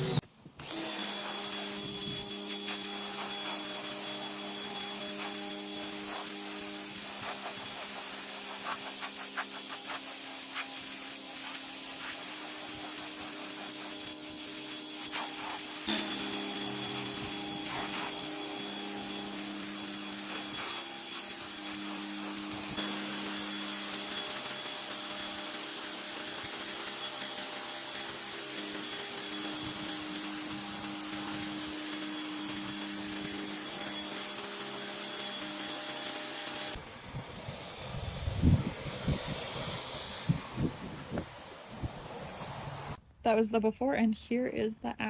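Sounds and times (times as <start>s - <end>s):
pressure washer spraying: 0.7s - 43.0s.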